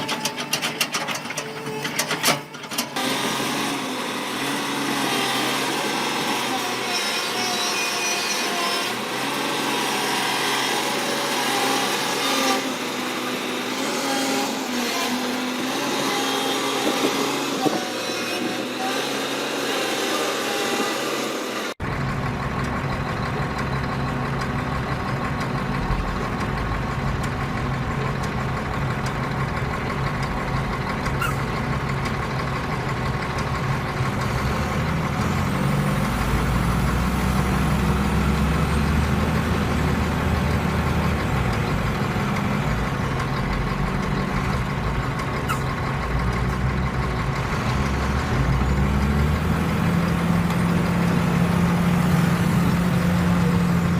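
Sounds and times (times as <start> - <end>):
heavy vehicle engine rumbling: 0.0 - 53.9.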